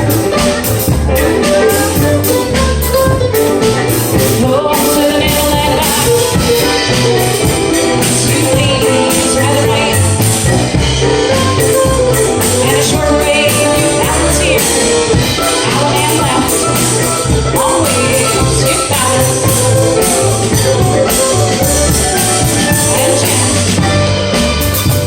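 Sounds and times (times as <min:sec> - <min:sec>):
folk dance band playing: 0:00.0 - 0:25.0.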